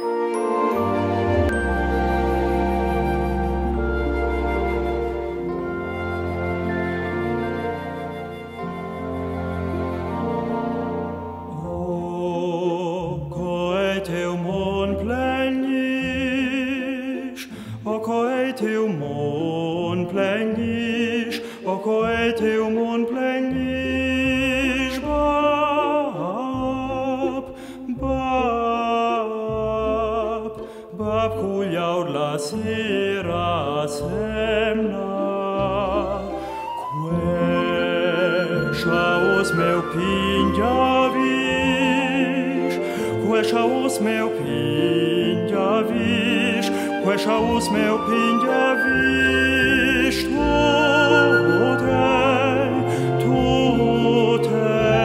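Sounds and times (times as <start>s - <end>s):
operatic singing: 0.0s - 55.0s
orchestral strings: 0.0s - 55.0s.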